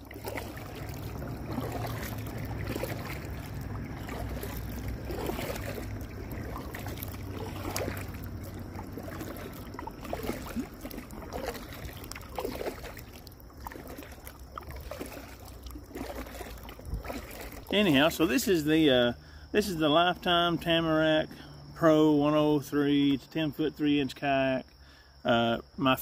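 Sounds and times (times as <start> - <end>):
paddle splashing in water: 0.0 - 22.4
water trickling: 0.0 - 23.2.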